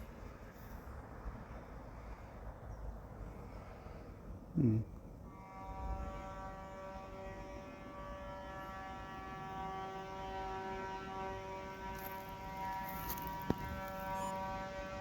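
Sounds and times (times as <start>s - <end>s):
construction machinery humming: 2.9s - 15.0s.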